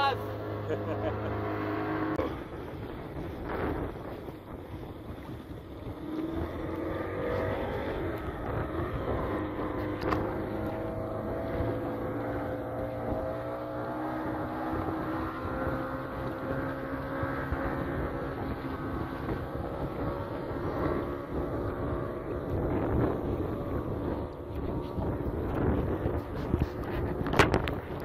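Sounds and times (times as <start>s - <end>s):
boat motor running: 0.0s - 28.0s
wind buffeting microphone: 1.6s - 28.0s.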